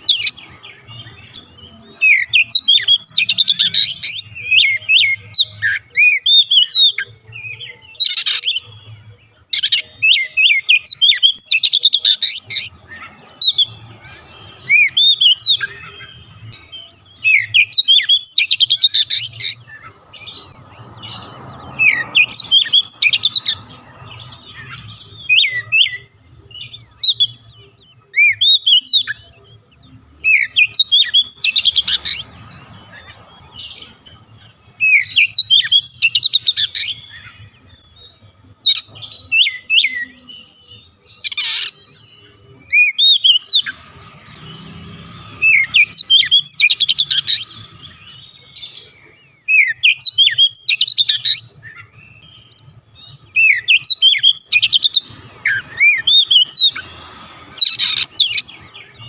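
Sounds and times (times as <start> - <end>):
bird singing whistles and chirps: 0.0 - 59.0.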